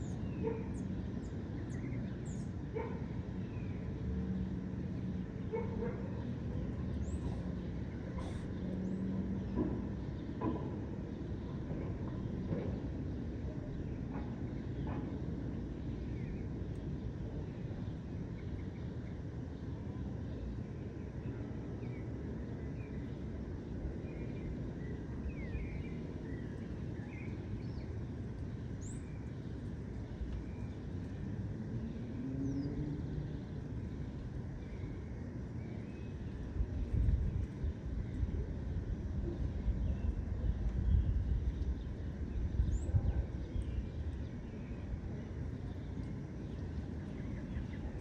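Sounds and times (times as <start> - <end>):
low steady rumble: 0.0 - 48.0
songbirds chirping: 0.0 - 48.0.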